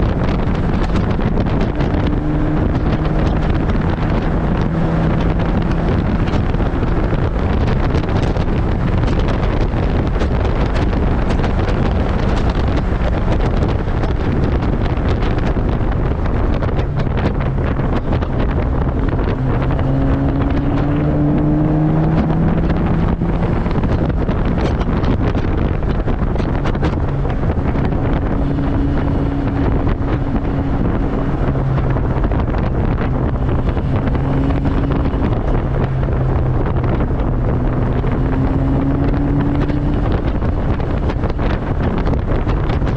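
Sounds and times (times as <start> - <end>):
car engine accelerating: 0.0 - 42.9
wind rush across microphone: 0.0 - 42.9.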